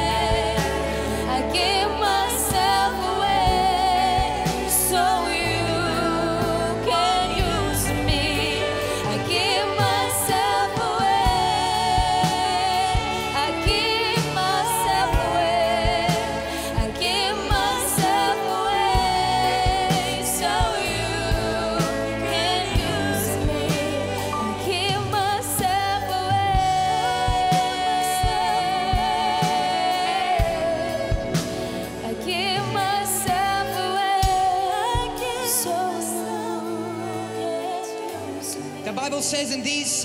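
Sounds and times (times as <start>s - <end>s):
woman singing with vibrato: 0.0s - 38.8s
band playing slow gospel song: 0.0s - 40.0s.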